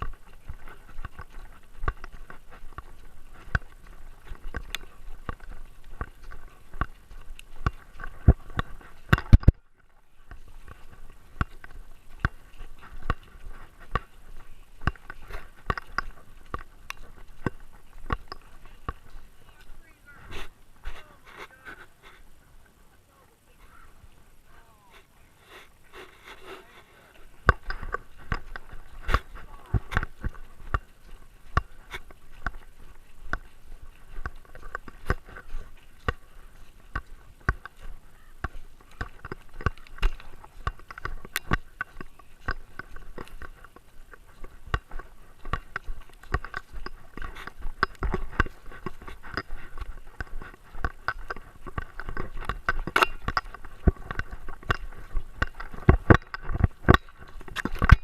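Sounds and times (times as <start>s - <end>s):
knocking and scraping on camera: 0.0s - 19.3s, 25.9s - 58.0s.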